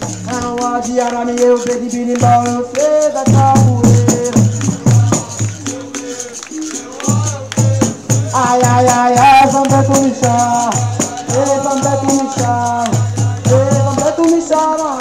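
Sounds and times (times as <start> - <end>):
berimbau: 0.0 - 15.0
low percussion beats: 0.0 - 15.0
person singing: 0.0 - 15.0
rattle shaking: 0.0 - 15.0.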